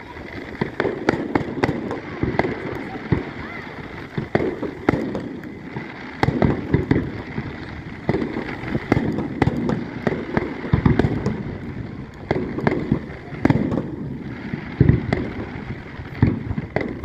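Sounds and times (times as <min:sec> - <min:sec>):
fireworks bangs: 0:00.0 - 0:17.0
fireworks booms: 0:00.0 - 0:17.0
fireworks crackle: 0:00.0 - 0:17.0.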